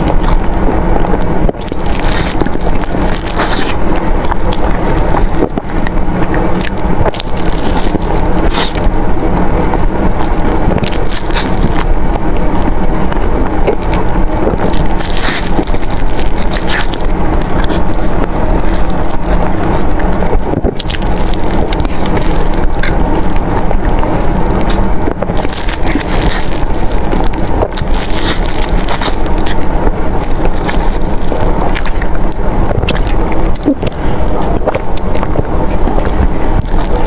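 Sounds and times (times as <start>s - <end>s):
close chewing and biting: 0.0s - 37.0s.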